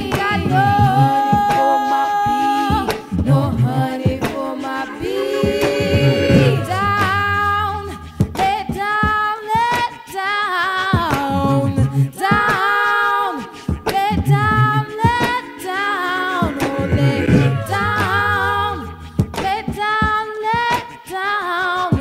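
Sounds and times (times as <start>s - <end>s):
a cappella voices singing harmony: 0.0s - 22.0s.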